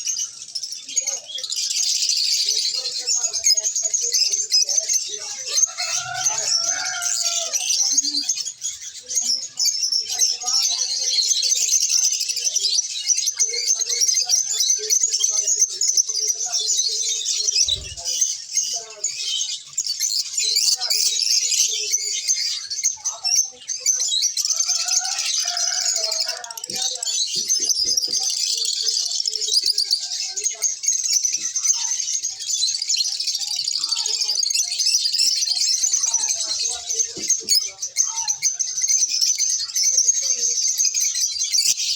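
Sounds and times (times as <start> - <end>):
lovebirds chirping and squawking: 0.0 - 41.9.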